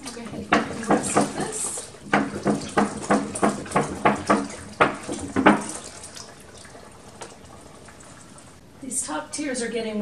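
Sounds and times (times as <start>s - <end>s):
water glugging from jug: 0.0s - 8.6s.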